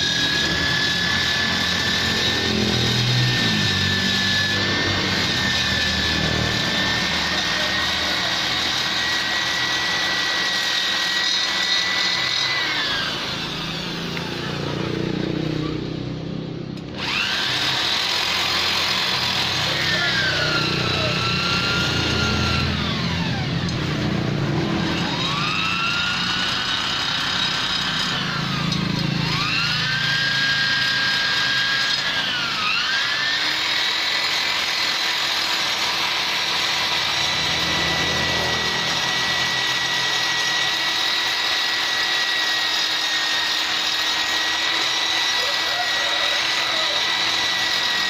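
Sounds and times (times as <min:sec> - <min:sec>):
rotary tool grinding metal: 0:00.0 - 0:16.1, 0:16.8 - 0:48.0.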